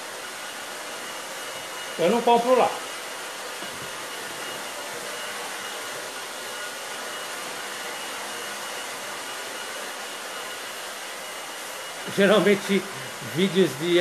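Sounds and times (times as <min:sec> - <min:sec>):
hot-air blower blowing: 0:00.0 - 0:14.0.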